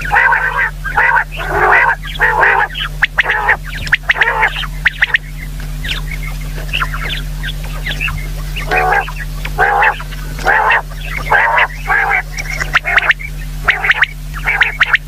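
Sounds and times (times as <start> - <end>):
low electrical hum: 0.0 - 15.0
quail chirping: 0.0 - 15.0.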